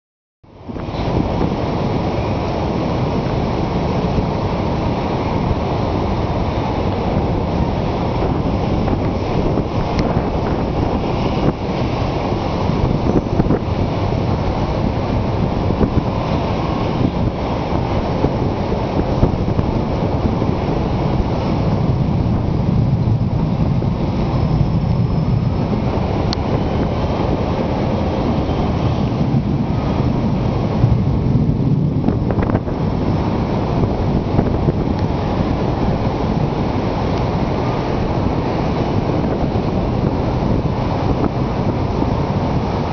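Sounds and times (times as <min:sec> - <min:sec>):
wind buffeting microphone: 0:00.5 - 0:42.9.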